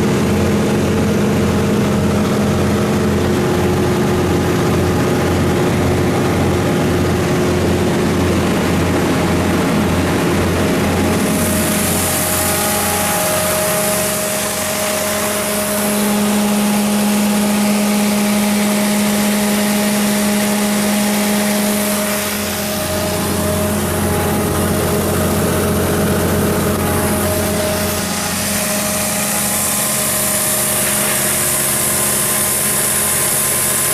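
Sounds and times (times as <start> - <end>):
diesel generator running: 0.0 - 33.9.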